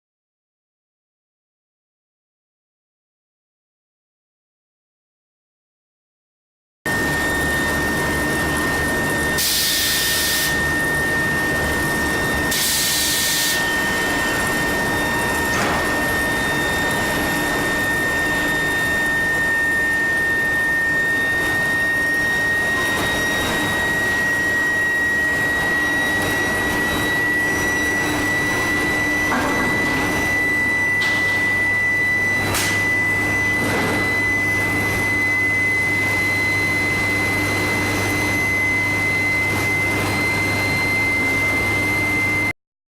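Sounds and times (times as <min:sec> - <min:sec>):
low machine hum: 0:06.9 - 0:42.4
high-pitched furnace whine: 0:06.9 - 0:42.6.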